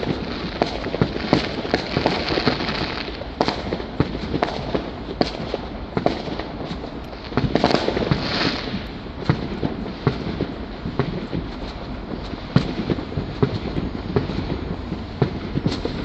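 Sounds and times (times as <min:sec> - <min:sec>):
fireworks bangs and pops: 0:00.0 - 0:16.0
fireworks crackling: 0:00.0 - 0:16.0.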